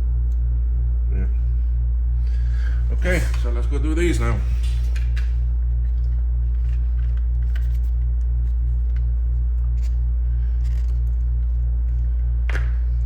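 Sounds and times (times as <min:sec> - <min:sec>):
pulsing electrical hum: 0:00.0 - 0:13.0.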